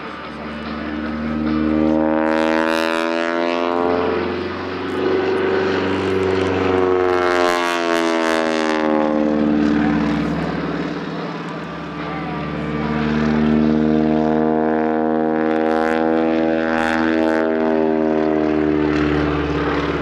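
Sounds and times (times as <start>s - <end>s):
propeller plane engine running hard: 0.0s - 20.0s.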